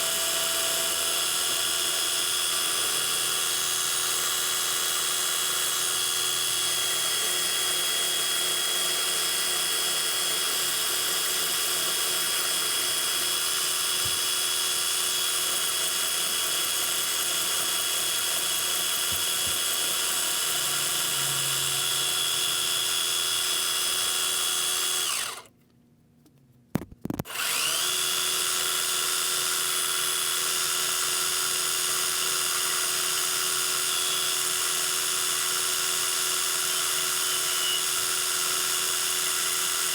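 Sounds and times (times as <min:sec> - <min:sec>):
metal lathe motor whine: 0:00.0 - 0:25.4, 0:27.3 - 0:39.9.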